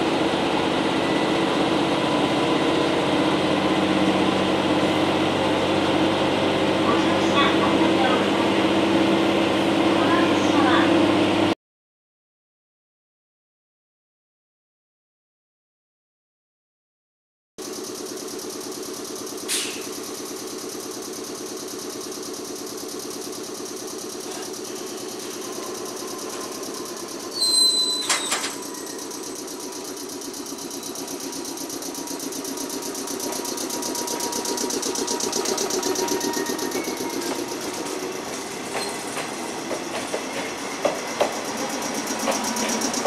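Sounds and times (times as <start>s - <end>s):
train running noise: 0.0s - 11.5s, 17.6s - 43.0s
electric train humming: 0.0s - 11.6s, 17.6s - 43.0s.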